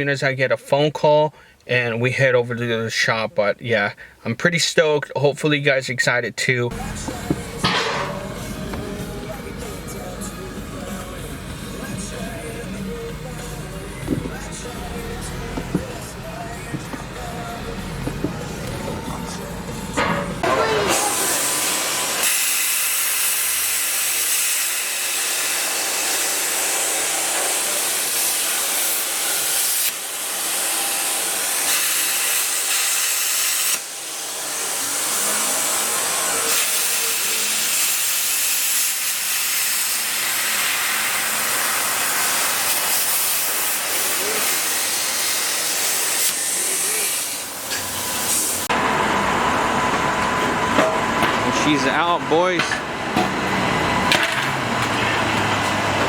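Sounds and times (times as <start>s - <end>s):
loud steady hissing: 6.7s - 52.5s.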